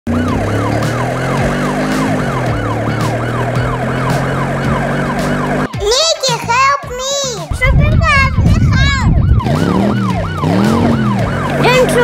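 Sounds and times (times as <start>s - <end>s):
electronic siren wailing: 0.1s - 5.8s, 7.6s - 12.0s.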